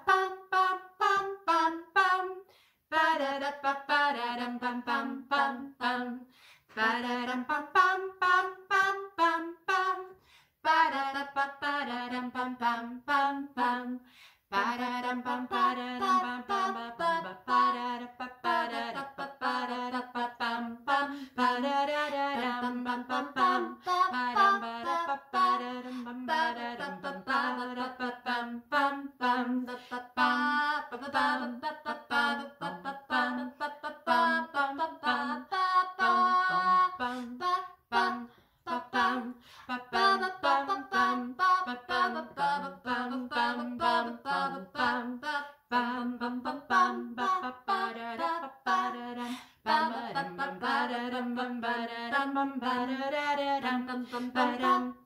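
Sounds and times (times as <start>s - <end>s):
women singing wordless melody: 0.0s - 55.0s.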